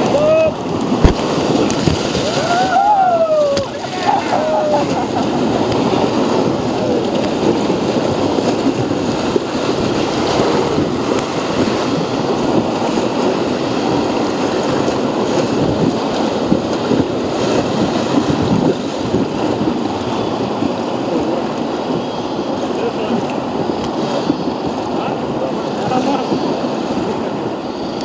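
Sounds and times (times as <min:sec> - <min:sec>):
water splashes: 0:00.0 - 0:28.0
whitewater rapids rushing: 0:00.0 - 0:28.0.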